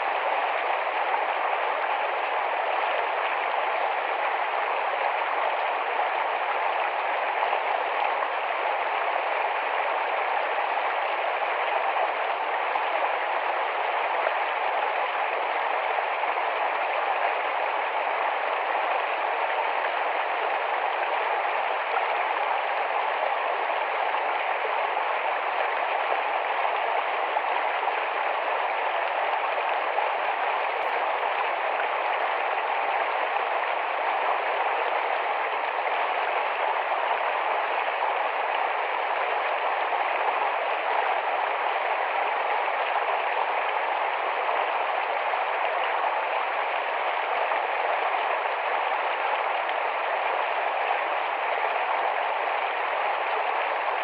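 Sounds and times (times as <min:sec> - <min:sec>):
stream water babbling: 0:00.0 - 0:54.0.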